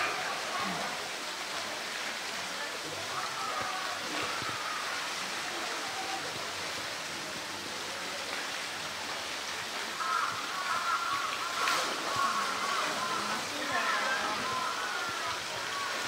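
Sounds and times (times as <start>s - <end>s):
flowing water rushing: 0.0s - 16.0s
people talking faintly: 0.0s - 16.0s.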